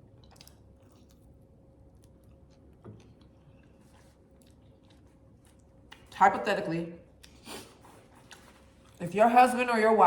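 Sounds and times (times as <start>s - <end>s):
faint chewing: 0.0s - 6.2s, 7.0s - 9.0s.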